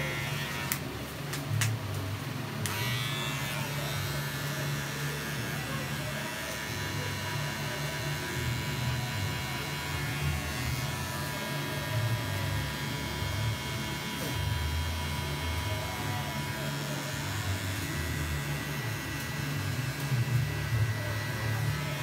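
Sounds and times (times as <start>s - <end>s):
electric hair clippers buzzing: 0.0s - 1.7s, 2.6s - 22.0s.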